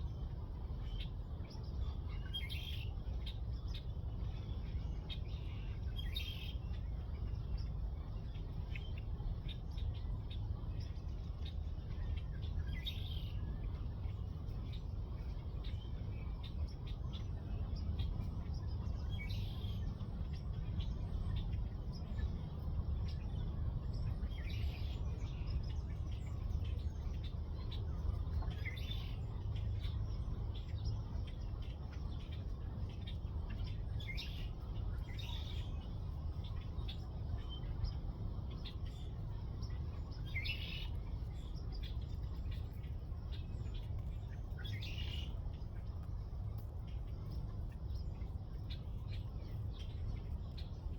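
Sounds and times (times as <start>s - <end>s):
birds chirping: 0.1s - 50.9s.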